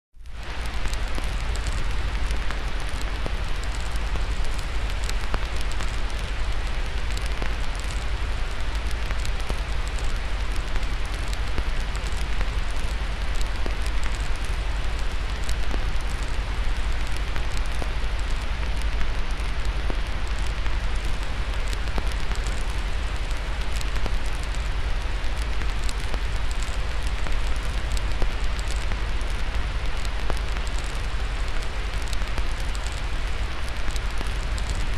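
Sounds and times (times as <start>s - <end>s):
fire crackling and popping: 0.2s - 34.9s
steady white noise: 0.2s - 34.9s.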